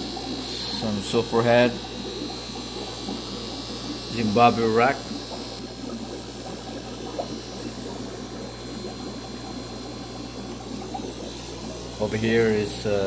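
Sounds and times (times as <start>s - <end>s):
low electrical hum: 0.0s - 13.0s
water bubbling and trickling: 0.0s - 13.0s.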